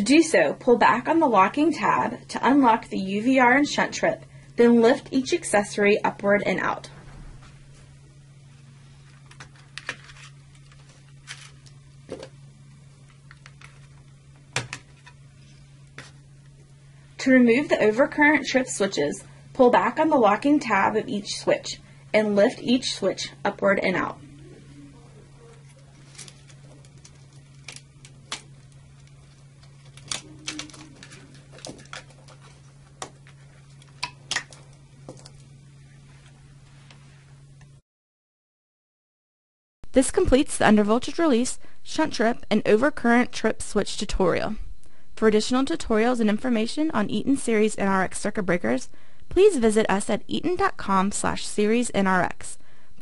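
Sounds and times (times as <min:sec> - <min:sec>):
faint low hum: 0:00.0 - 0:37.8, 0:39.9 - 0:53.0.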